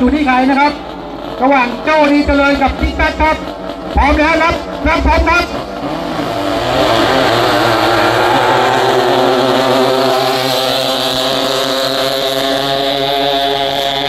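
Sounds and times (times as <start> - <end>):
racing boat engines at full throttle: 0.0 - 14.0.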